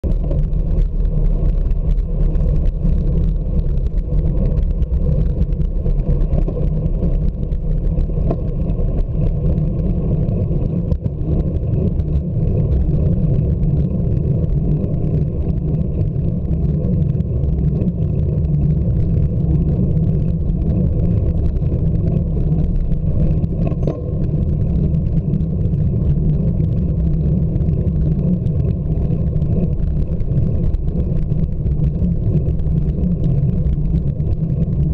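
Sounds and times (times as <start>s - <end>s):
wind rumble on microphone: 0.0s - 34.9s.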